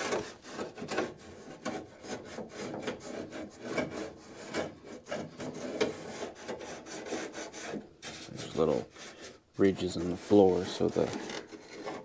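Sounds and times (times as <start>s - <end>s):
tool scratching sheet metal: 0.0s - 12.0s.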